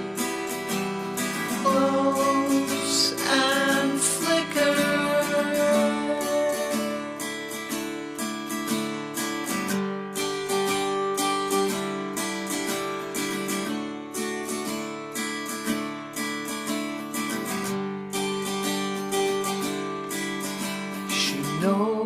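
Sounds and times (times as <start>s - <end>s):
guitar strumming chords: 0.0s - 22.0s.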